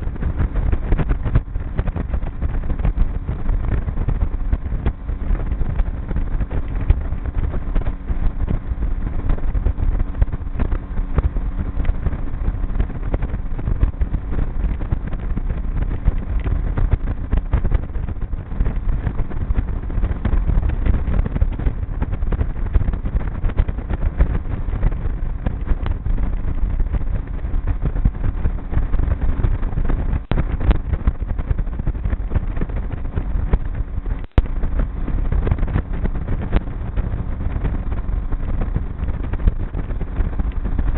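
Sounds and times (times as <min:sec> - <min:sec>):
outboard motor running: 0:00.0 - 0:40.9
wind buffeting microphone: 0:00.0 - 0:40.9.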